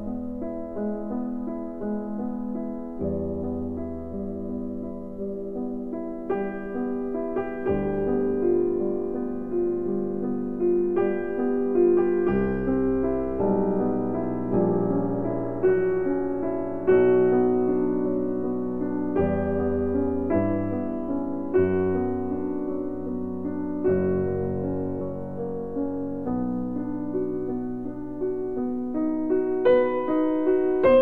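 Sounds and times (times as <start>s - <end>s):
piano notes and chords: 0.0s - 31.0s.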